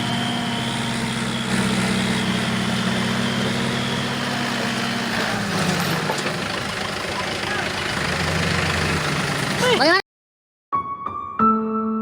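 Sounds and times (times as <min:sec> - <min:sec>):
heavy vehicle engine idling: 0:00.0 - 0:10.0.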